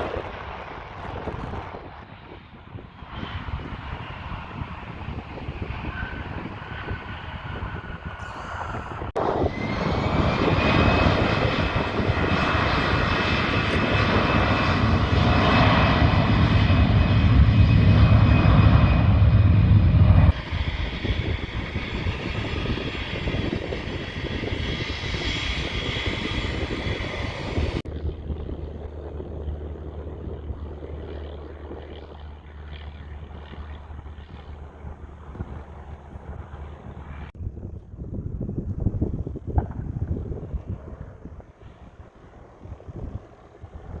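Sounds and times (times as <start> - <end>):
airplane engine noise with whine: 0.0 - 44.0.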